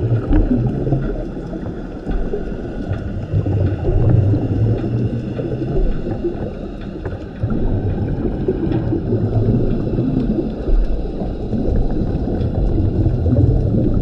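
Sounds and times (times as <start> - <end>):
scuba regulator bubbles gurgling: 0.0 - 14.0.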